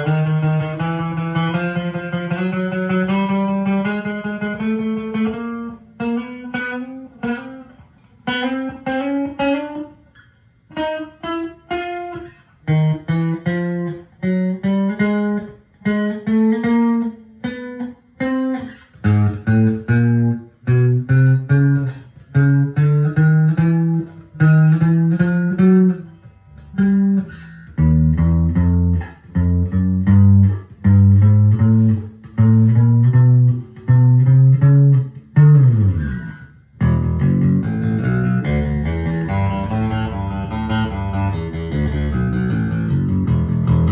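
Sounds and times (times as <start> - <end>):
electric bass plucked notes: 0.0 - 7.5, 12.6 - 17.1, 18.2 - 43.9.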